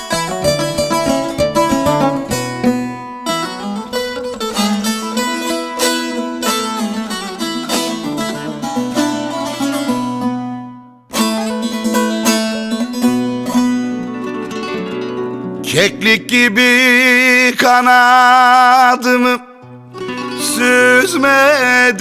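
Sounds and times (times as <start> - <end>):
plucked string instrument melody: 0.0 - 17.5, 19.6 - 22.0.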